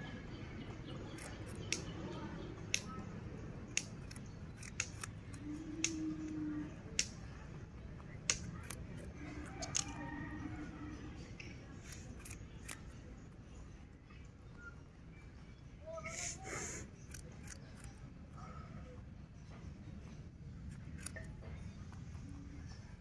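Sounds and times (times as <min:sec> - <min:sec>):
rabbit chewing radish crunches: 0:00.7 - 0:13.6, 0:15.9 - 0:18.4, 0:19.7 - 0:22.9.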